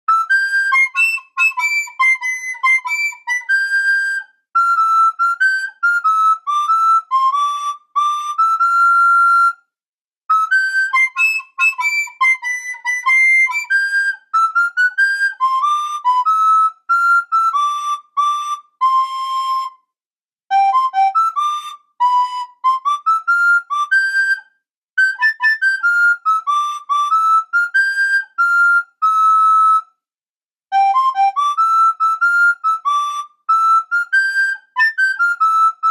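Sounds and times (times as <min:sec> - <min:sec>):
person whistling a tune: 0:00.1 - 0:30.0, 0:30.7 - 0:35.9.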